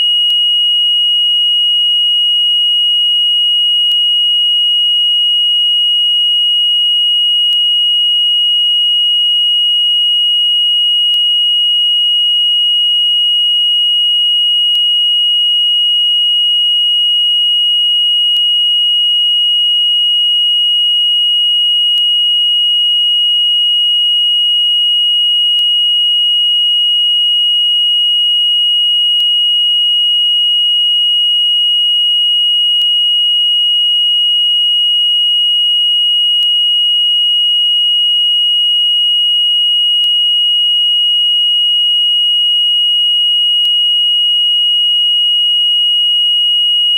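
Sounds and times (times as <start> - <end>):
fire alarm buzzer tone: 0.0 - 46.9.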